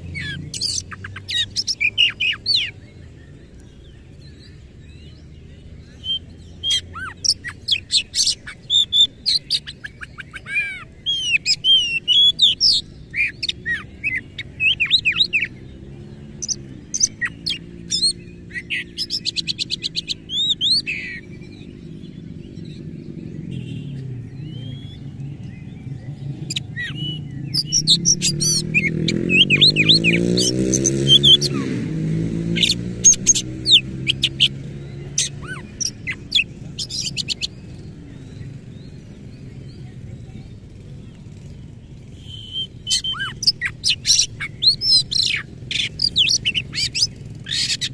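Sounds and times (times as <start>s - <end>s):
bird singing varied song: 0.0s - 47.9s.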